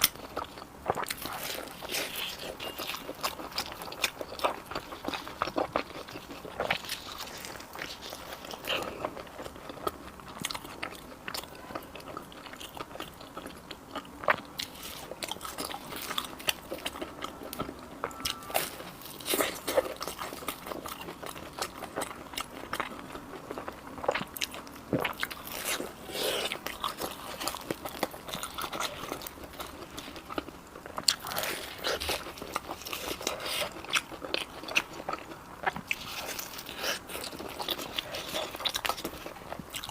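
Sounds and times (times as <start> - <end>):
crunchy chewing of fried dough: 0.0 - 39.9.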